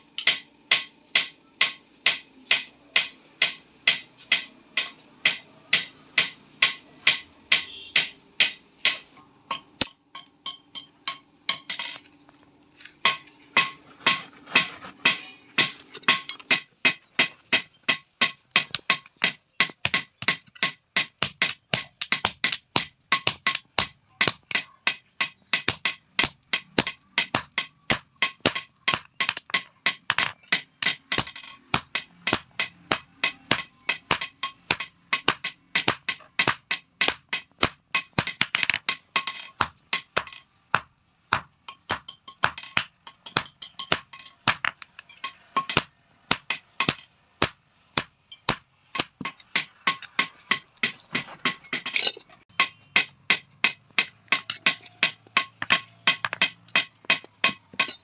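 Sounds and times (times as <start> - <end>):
hammer striking steel on anvil: 0.2 - 12.1, 13.0 - 58.0.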